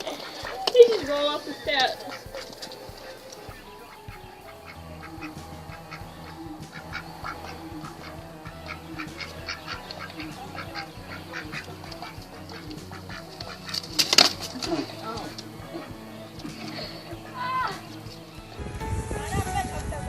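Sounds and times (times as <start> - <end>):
duck quacking: 0.0 - 18.0.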